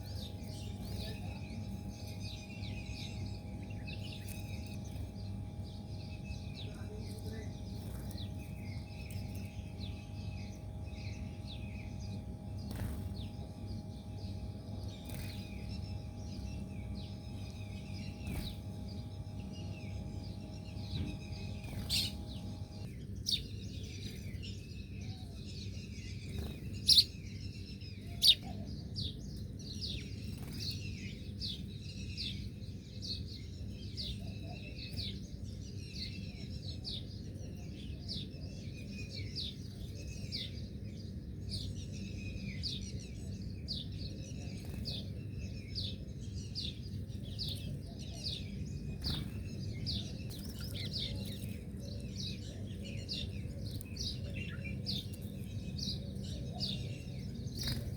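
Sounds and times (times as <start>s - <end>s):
birds chirping: 0.0s - 57.9s
low background hum: 0.0s - 57.9s.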